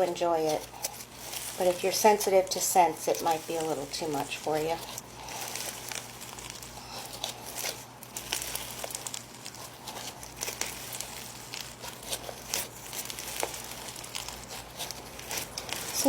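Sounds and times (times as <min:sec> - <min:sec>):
slime squished by hand crackling: 0:00.0 - 0:16.0.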